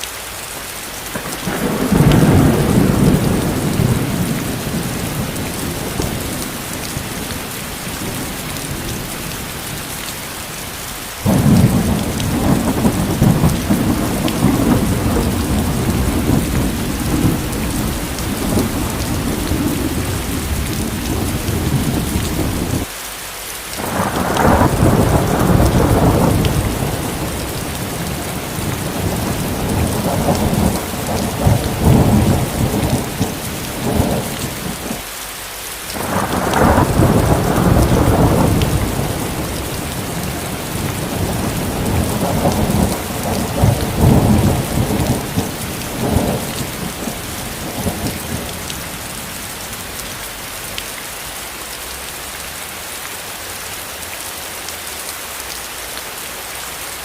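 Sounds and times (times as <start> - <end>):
steady rain: 0.0 - 57.0
rolling thunder: 1.1 - 10.0, 11.2 - 22.9, 23.8 - 35.0, 36.0 - 50.5.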